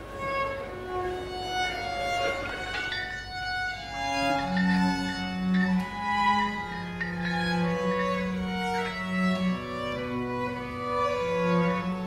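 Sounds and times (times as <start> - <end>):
bowed strings playing long notes: 0.0 - 12.0.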